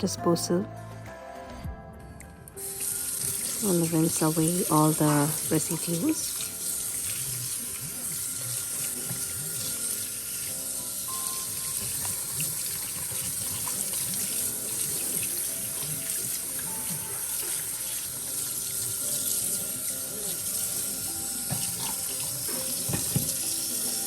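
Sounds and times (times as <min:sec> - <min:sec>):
water running from tap into sink: 0:02.6 - 0:24.0.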